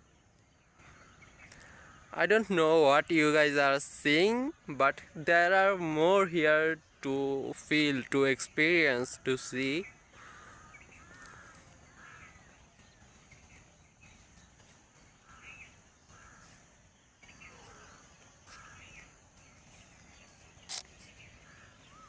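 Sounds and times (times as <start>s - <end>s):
distant crows cawing: 0.0s - 22.0s.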